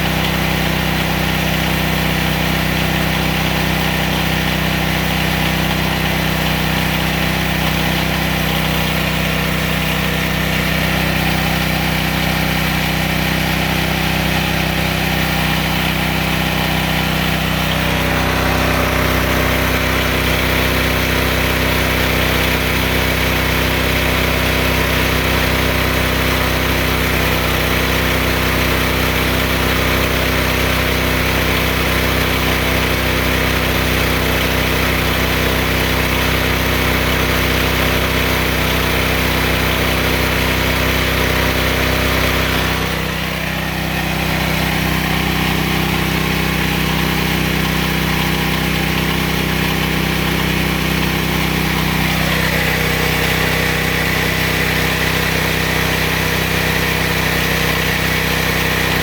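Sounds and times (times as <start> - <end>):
gas engine running: 0.0 - 59.0.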